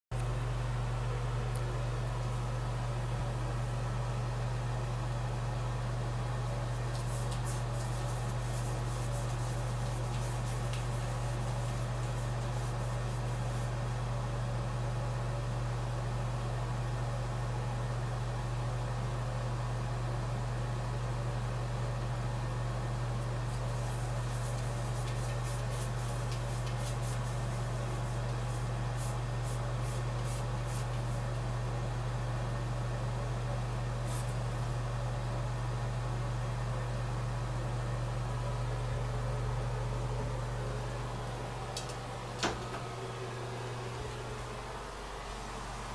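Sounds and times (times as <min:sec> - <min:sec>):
low mechanical hum: 0:00.1 - 0:45.9.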